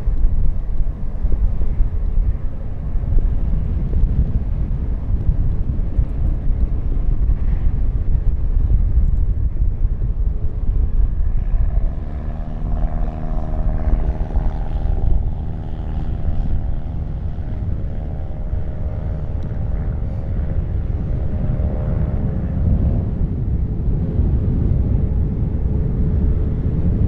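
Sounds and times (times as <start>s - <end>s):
aircraft engines humming: 0.0s - 27.0s
wind rumble on microphone: 0.0s - 27.0s.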